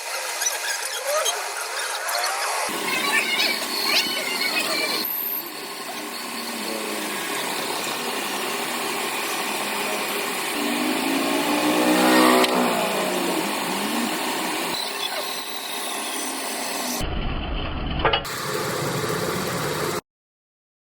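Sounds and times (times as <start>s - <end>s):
motor running: 1.4s - 17.0s, 18.3s - 20.0s.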